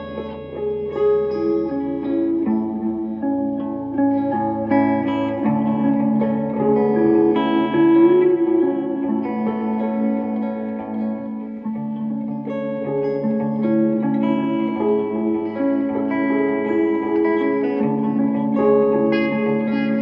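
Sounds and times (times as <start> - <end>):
guitar with effects: 0.0 - 20.0.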